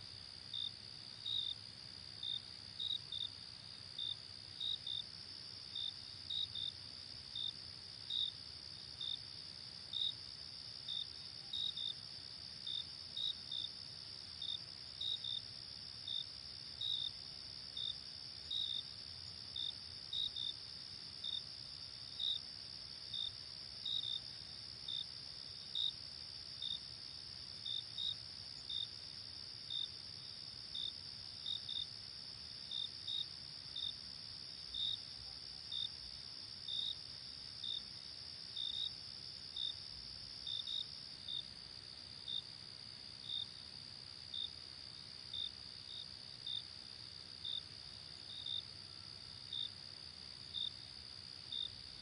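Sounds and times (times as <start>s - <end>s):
continuous high insect trill: 0.0s - 52.0s
crickets chirping: 0.0s - 52.0s.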